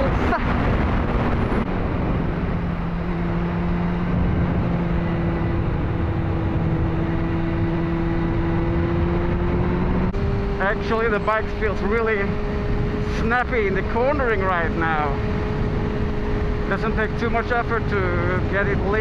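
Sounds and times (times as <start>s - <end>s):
motorcycle engine cruising: 0.0s - 19.0s
wind rushing past microphone: 0.0s - 19.0s.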